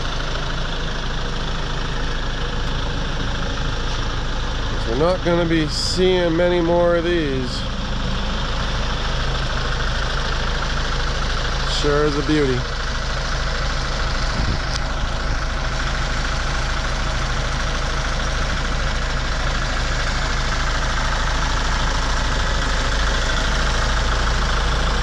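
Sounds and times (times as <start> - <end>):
diesel tractor engine idling: 0.0 - 25.0.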